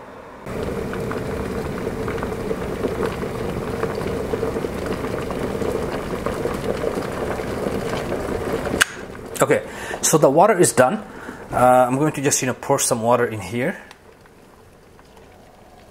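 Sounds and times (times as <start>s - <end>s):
kettle boiling: 0.4s - 15.9s.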